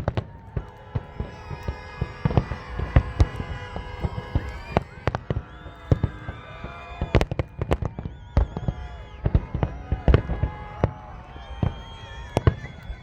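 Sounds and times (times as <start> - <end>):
fireworks bangs: 0.0 - 13.0
fireworks whistling: 0.0 - 13.0.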